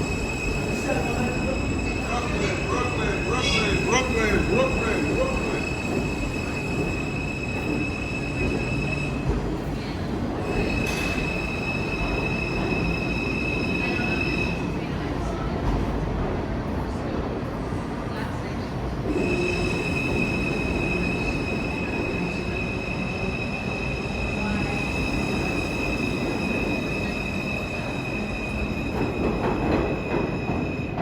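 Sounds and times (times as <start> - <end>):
subway train rumbling on track: 0.0 - 31.0.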